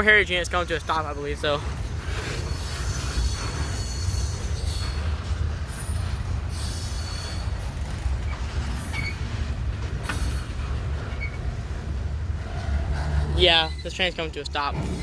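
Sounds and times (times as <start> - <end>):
train rumbling past: 0.0 - 15.0
train wheels squealing: 0.5 - 11.5, 12.4 - 15.0.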